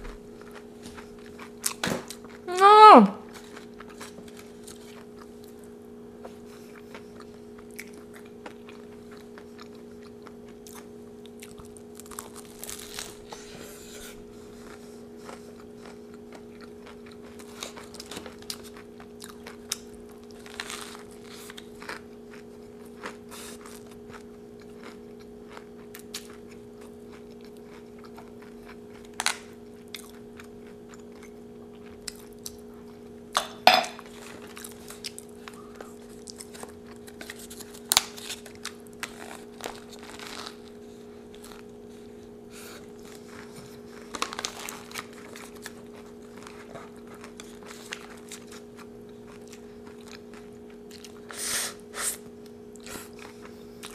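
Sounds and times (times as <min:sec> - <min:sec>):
chewing crunchy taco: 0:00.0 - 0:02.6, 0:03.2 - 0:53.9
steady low hum: 0:00.0 - 0:53.9.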